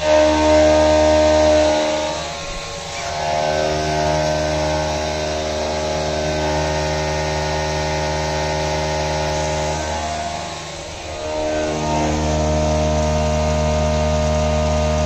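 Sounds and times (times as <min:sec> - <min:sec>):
milling spindle whine: 0:00.0 - 0:15.0.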